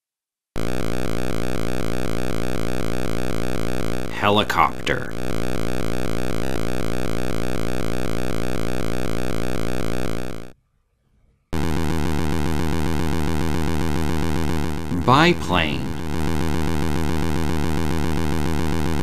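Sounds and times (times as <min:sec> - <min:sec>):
synthesized buzzing: 0:00.6 - 0:10.6, 0:11.5 - 0:19.0
synthesized helicopter buzz: 0:00.6 - 0:10.6, 0:11.6 - 0:19.0.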